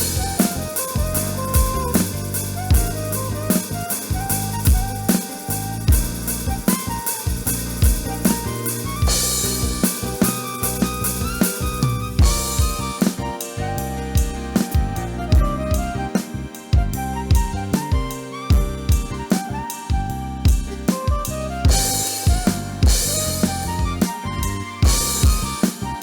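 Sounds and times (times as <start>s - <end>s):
backing bass and melody: 0.0s - 26.0s
electronic drum beat: 0.0s - 26.0s.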